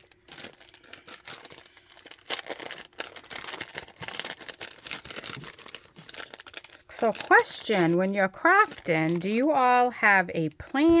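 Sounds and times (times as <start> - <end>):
packet crinkling: 0.0 - 10.6.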